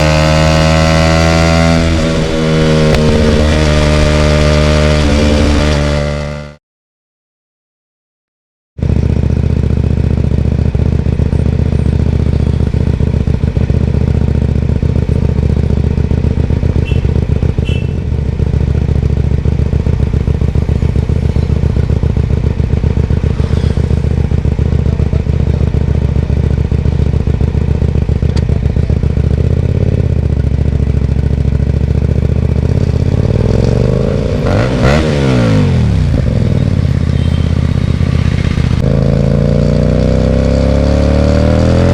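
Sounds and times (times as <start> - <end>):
motorcycle engine running loudly: 0.0 - 6.6, 8.8 - 41.9.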